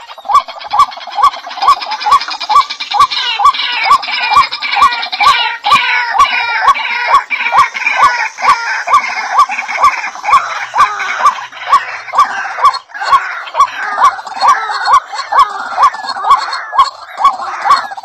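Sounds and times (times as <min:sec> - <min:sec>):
bird chirping: 0:00.0 - 0:18.0
dense high chatter: 0:00.0 - 0:18.0
upward-hooked bird calls: 0:00.0 - 0:18.0.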